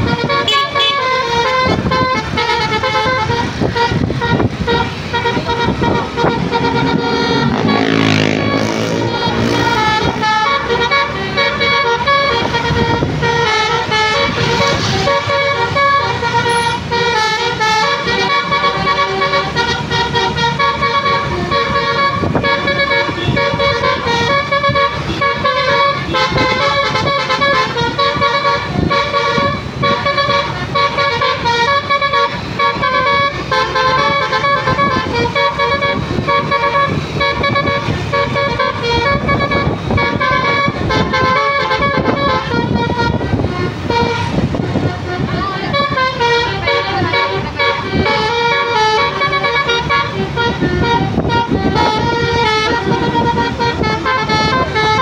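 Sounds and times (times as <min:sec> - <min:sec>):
bus engine: 0:00.0 - 0:55.0
multi-trumpet bus horn tune: 0:00.0 - 0:55.0
road noise: 0:00.0 - 0:55.0.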